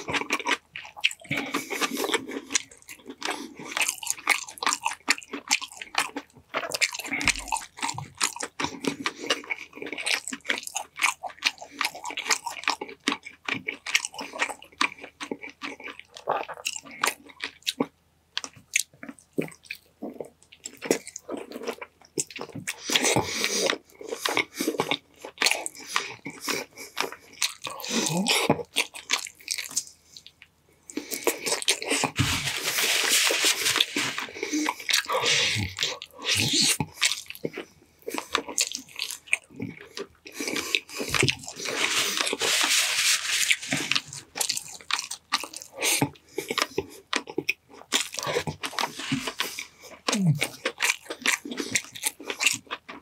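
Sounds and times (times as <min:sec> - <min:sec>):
noise: 0:00.0 - 0:53.0
person chewing food: 0:00.0 - 0:53.0.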